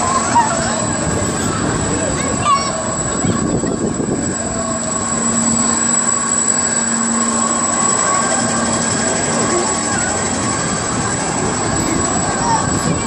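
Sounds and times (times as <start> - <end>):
fairground ride mechanical rumble: 0.0 - 13.0
low motor hum: 0.0 - 13.0.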